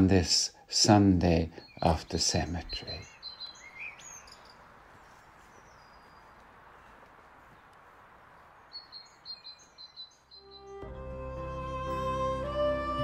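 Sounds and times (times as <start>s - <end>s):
soft steady hiss: 0.0s - 10.8s
faint birds chirping: 0.0s - 13.0s.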